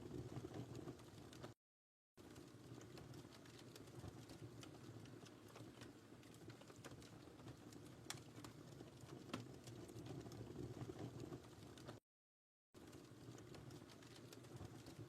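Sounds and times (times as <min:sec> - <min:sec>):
wood fire crackling softly: 0:00.0 - 0:01.6, 0:02.2 - 0:12.0, 0:12.8 - 0:15.0.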